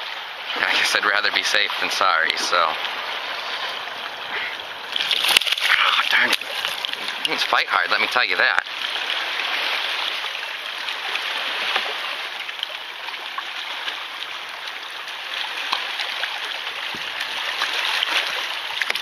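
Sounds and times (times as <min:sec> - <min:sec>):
water drips and splashes: 0:00.0 - 0:19.0
water lapping against rocks: 0:00.0 - 0:19.0.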